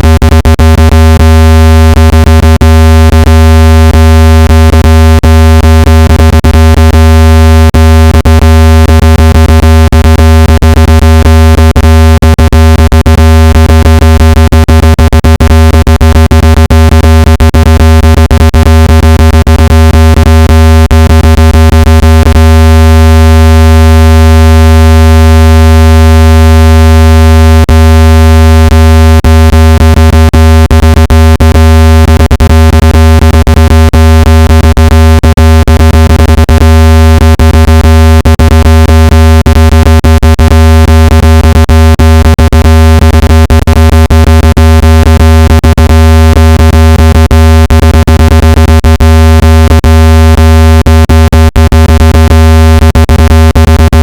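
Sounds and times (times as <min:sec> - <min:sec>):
deep electronic buzzing tone: 0:00.0 - 0:54.0.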